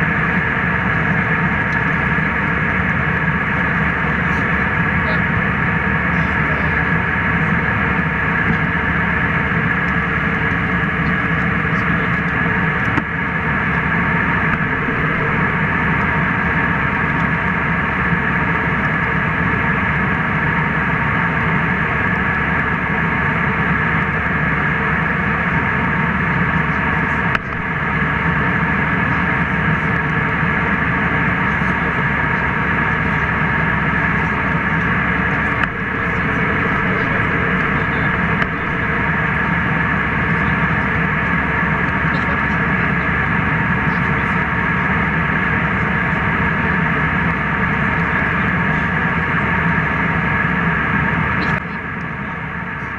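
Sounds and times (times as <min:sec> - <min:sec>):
airliner cabin noise: 0:00.0 - 0:52.9.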